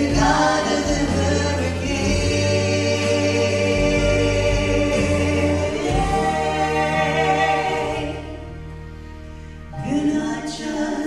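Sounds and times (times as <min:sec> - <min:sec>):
instrumental accompaniment: 0:00.0 - 0:10.6
vocal group singing in harmony: 0:00.0 - 0:11.0.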